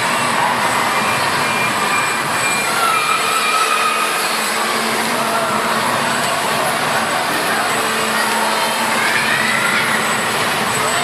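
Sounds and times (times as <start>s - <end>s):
swinging ride rush and rumble: 0.0s - 11.0s.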